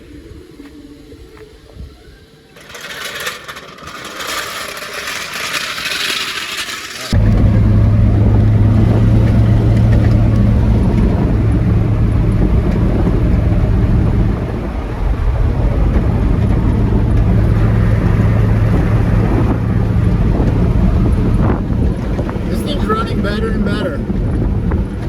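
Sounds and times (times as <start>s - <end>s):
pickup truck engine droning: 0.0s - 25.0s.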